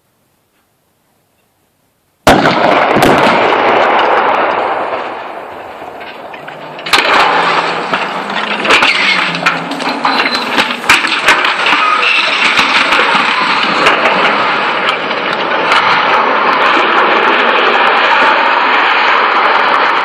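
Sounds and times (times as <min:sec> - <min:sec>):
explosion with sharp cracks: 0:02.2 - 0:20.0
loud rumbling blast: 0:02.3 - 0:20.0.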